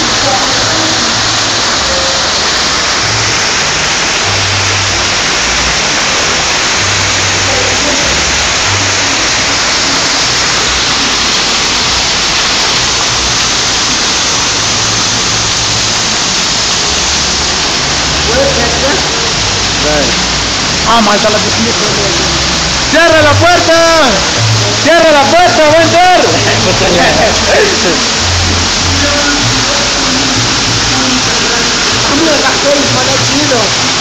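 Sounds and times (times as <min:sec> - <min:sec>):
heavy rain and hail: 0:00.0 - 0:34.0
water rushing along gutter: 0:00.0 - 0:34.0.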